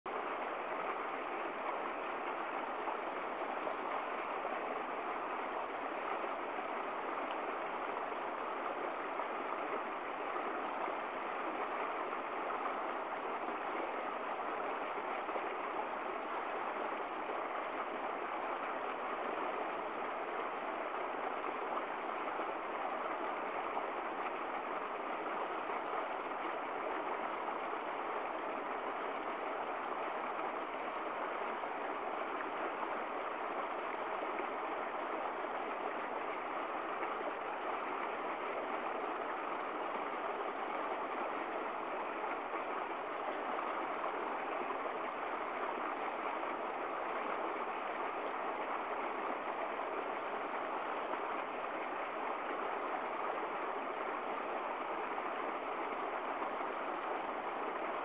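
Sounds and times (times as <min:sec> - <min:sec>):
stream splashing over rocks: 0:00.1 - 0:58.0.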